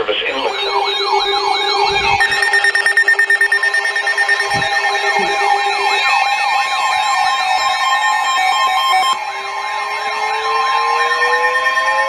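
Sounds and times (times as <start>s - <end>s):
steady alert tones: 0.0s - 12.0s
warbling weather alert siren: 0.0s - 12.0s.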